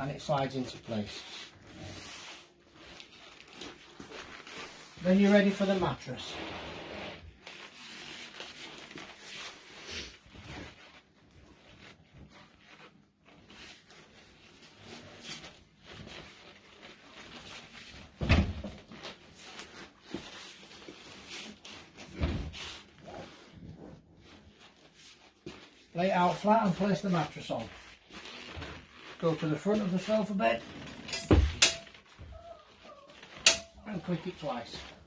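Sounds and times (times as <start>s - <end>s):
rustling and scraping: 0.0s - 35.0s.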